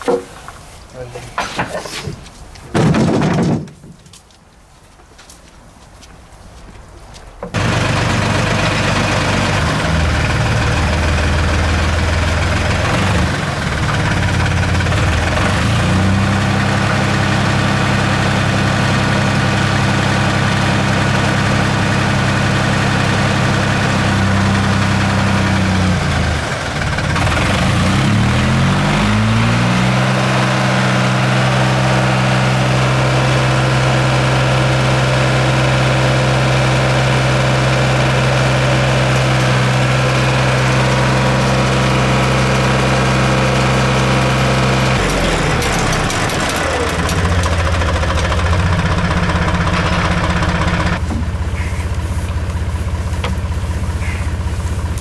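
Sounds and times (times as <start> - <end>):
engine running: 7.5 - 55.0.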